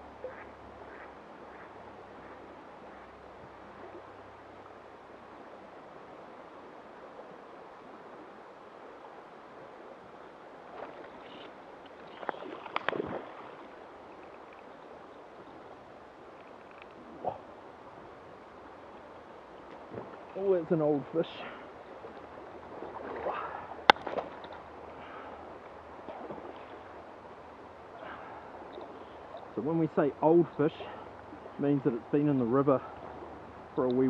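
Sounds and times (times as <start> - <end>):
fast-flowing river rushing: 0.0 - 33.8.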